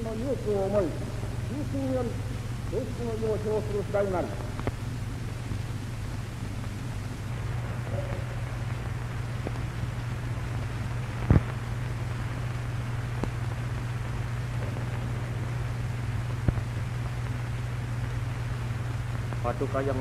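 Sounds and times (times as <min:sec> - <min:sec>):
film soundtrack hiss and hum: 0:00.0 - 0:20.0.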